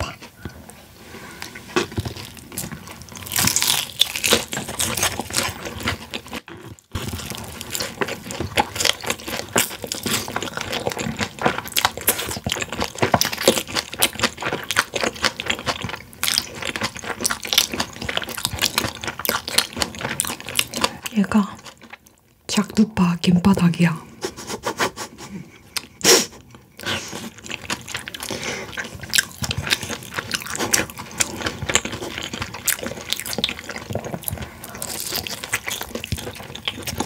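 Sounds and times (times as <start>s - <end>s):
chewing crispy fried chicken: 1.4s - 22.4s, 25.6s - 37.0s.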